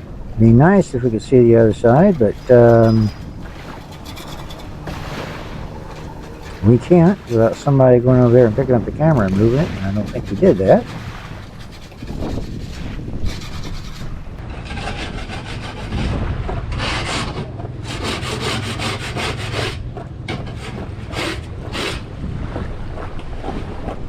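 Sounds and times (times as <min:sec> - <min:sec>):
hand scrubbing dinghy hull: 0:00.0 - 0:24.0.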